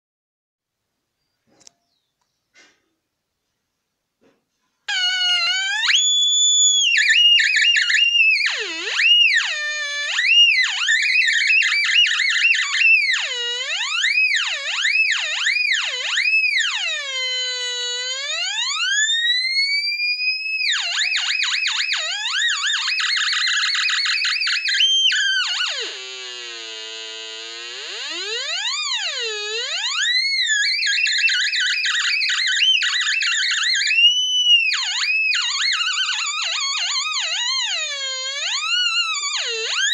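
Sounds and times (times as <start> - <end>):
warbling electronic buzz from loudspeaker: 4.9 - 39.9.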